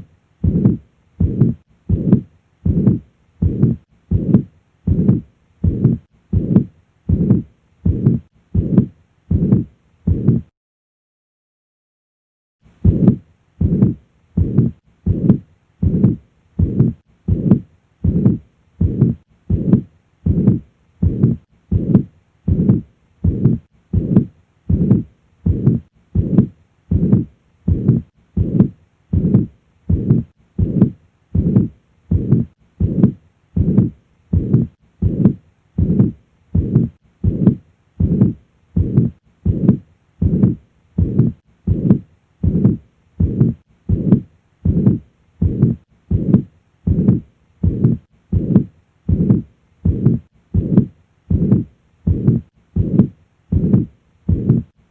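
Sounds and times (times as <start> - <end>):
heartbeat through stethoscope: 0.0 - 10.5, 12.8 - 54.8
heart murmur: 0.4 - 10.5, 12.8 - 54.7.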